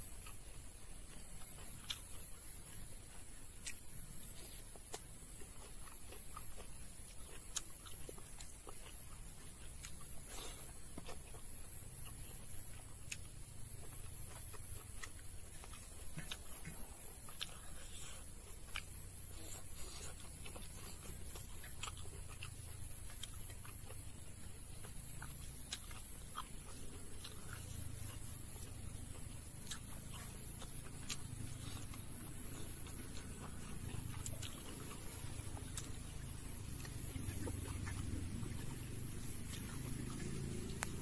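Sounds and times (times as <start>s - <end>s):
chewing and lip-smacking: 0.0s - 41.0s
low steady rumble: 0.0s - 41.0s.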